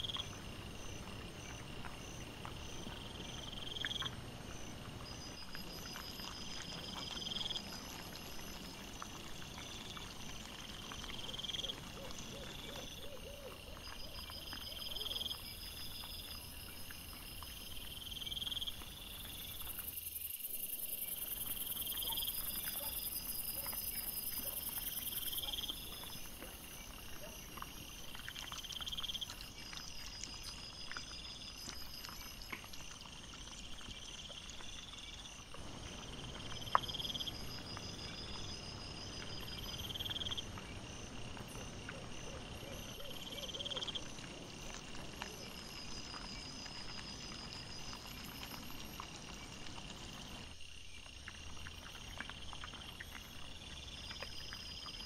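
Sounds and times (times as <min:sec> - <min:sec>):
crickets chirping: 0:00.0 - 0:55.0
insect trill: 0:00.0 - 0:55.0.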